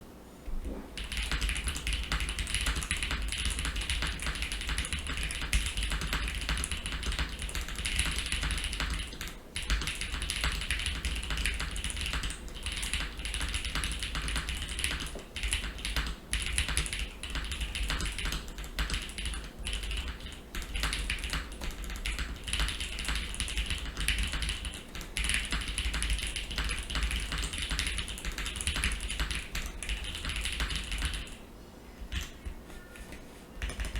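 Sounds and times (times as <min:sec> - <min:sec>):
fast typing on mechanical keyboard: 0:01.0 - 0:31.4, 0:32.1 - 0:32.3, 0:33.6 - 0:33.9.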